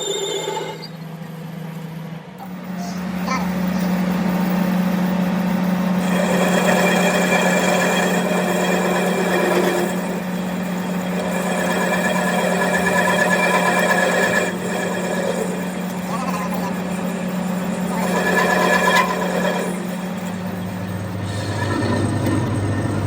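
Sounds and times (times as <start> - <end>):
workshop machine humming: 0.0 - 23.0.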